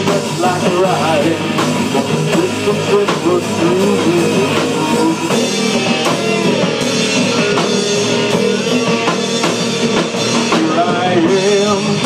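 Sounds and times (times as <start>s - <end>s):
drums beating: 0.0s - 12.0s
rock band playing: 0.0s - 12.0s.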